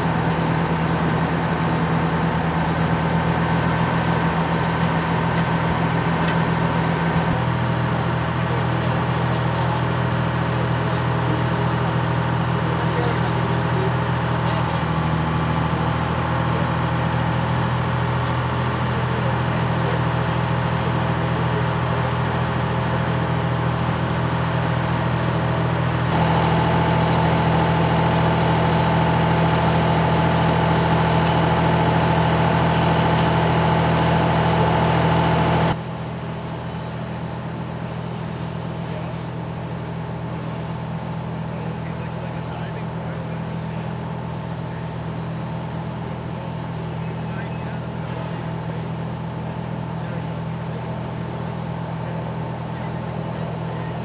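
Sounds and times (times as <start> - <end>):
large engine humming: 0.0 - 54.0.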